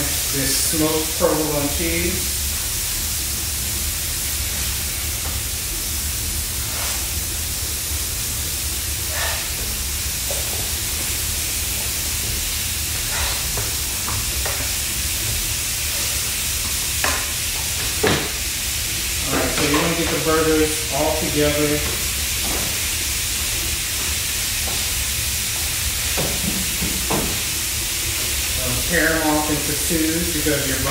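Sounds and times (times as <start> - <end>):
burgers sizzling on a griddle: 0.0 - 30.9.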